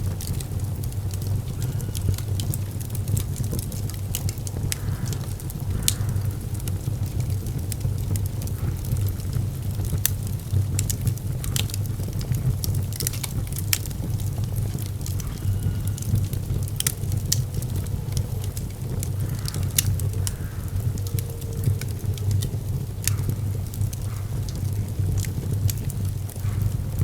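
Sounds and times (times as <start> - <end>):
fire low rumble: 0.0 - 27.0
wood fire crackling: 0.0 - 27.0.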